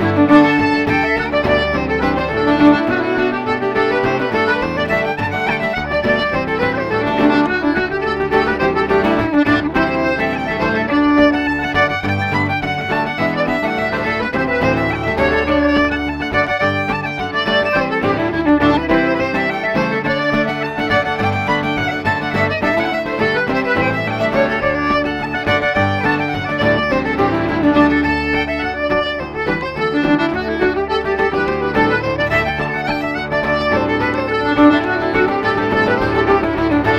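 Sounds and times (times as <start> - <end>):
accordion: 0.0 - 36.9
fiddle melody: 0.0 - 36.9
strummed acoustic guitar: 0.0 - 36.9.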